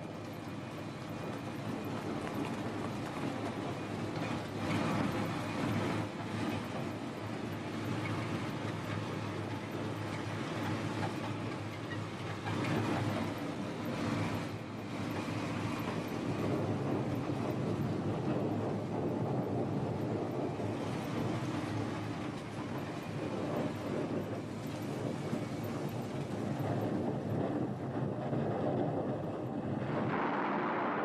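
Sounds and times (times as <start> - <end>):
road noise: 0.0 - 31.0
truck engine droning: 0.0 - 31.0.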